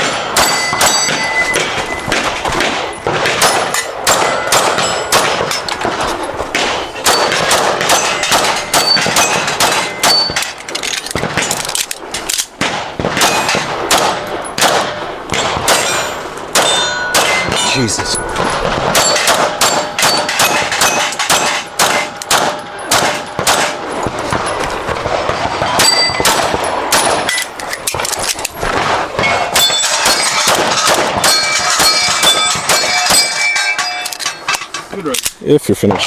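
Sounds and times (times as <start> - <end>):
steel targets ringing: 0.0 - 10.9, 13.2 - 14.6, 15.3 - 27.6, 29.2 - 34.9
pistol shots: 0.0 - 34.4.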